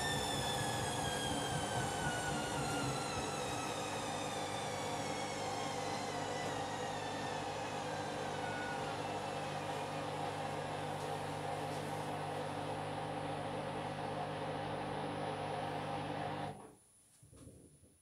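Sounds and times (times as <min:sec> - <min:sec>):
washing machine humming and whining: 0:00.0 - 0:16.7.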